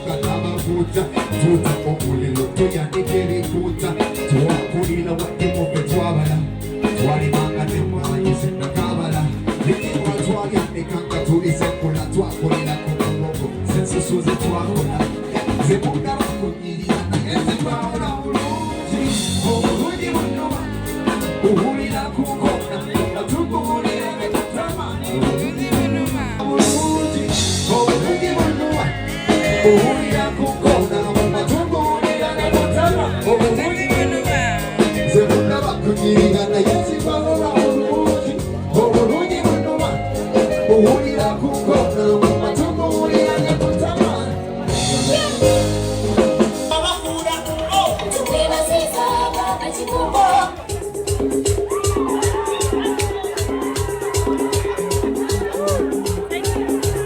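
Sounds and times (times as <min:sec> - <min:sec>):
person singing: 0:00.0 - 0:45.7, 0:46.6 - 0:57.0
band music with drums and guitar: 0:00.0 - 0:57.0.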